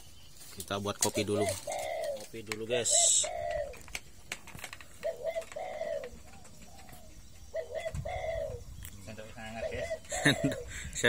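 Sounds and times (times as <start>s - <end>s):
dove cooing: 1.0s - 4.0s, 4.6s - 11.0s.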